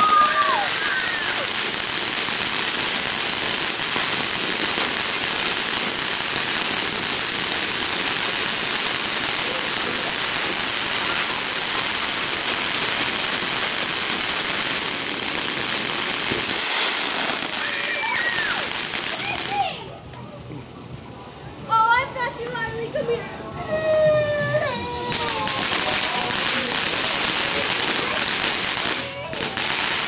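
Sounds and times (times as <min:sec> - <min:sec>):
fireworks spraying sparks hiss: 0:00.0 - 0:19.7, 0:25.1 - 0:30.0.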